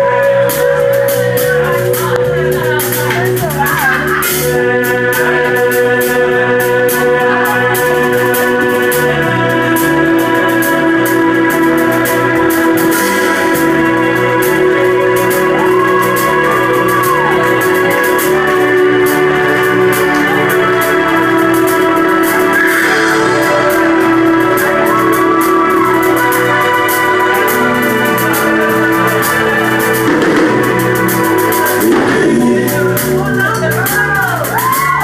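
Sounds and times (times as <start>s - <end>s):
sustained organ chords: 0.0s - 34.0s
live band music: 0.0s - 35.0s.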